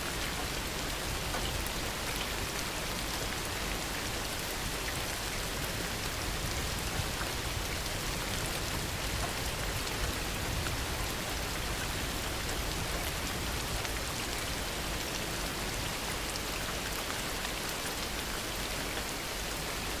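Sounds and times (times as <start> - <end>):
heavy rain pattering: 0.0 - 20.0.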